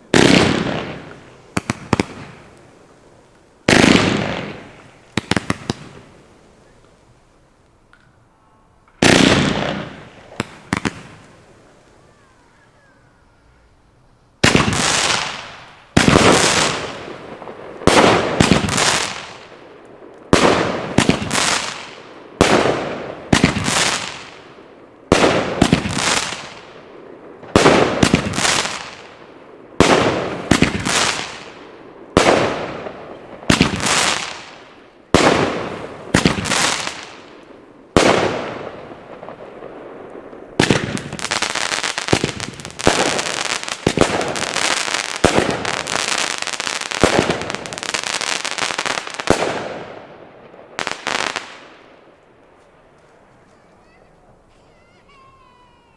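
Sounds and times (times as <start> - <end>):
fireworks shots: 0.0 - 6.7, 8.9 - 12.5, 14.4 - 55.9.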